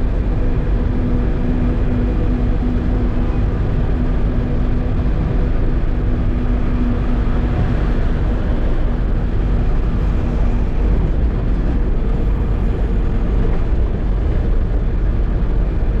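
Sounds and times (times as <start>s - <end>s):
diesel truck engine rumbling: 0.0s - 16.0s
higher hum: 0.0s - 16.0s
steady hum: 0.0s - 16.0s.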